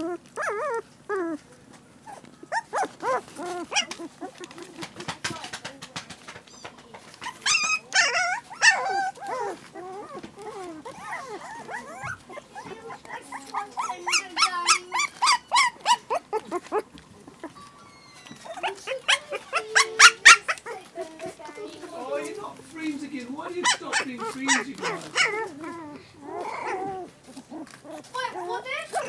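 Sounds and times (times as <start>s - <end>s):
puppies yipping and whining: 0.0s - 29.0s.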